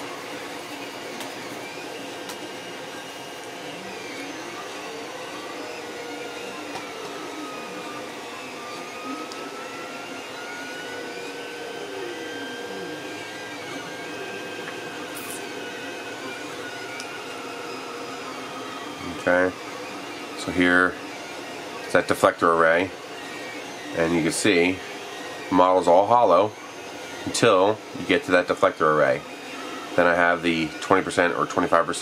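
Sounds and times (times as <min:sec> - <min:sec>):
fan whirring: 0:00.0 - 0:32.0
stepper motor tones gliding: 0:00.0 - 0:32.0.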